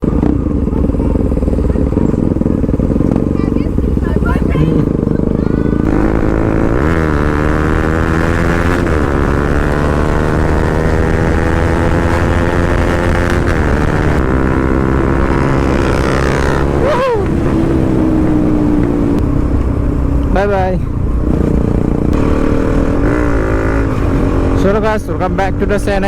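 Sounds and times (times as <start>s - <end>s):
motorcycle engine shifting gears: 0.0s - 26.0s.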